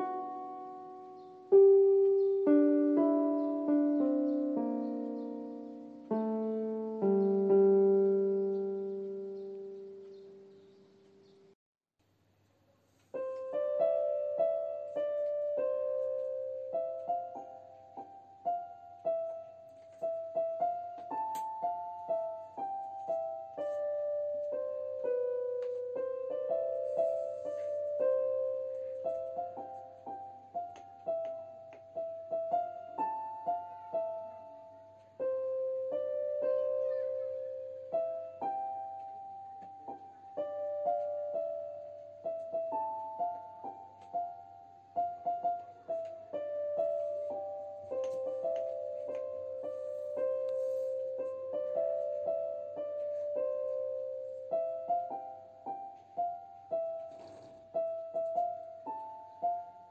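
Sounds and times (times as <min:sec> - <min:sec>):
piano melody: 0:00.0 - 0:11.6, 0:13.0 - 0:59.9.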